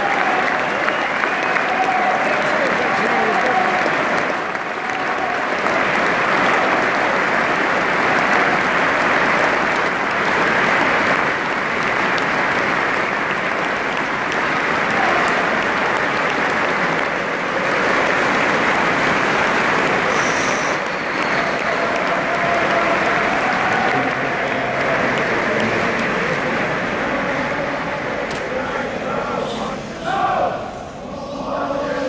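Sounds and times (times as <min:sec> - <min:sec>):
crowd applauding: 0:00.0 - 0:29.2.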